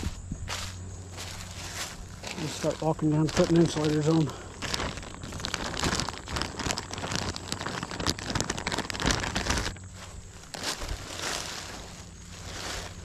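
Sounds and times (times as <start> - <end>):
footsteps crunching through dry brush: 0.0 - 13.0.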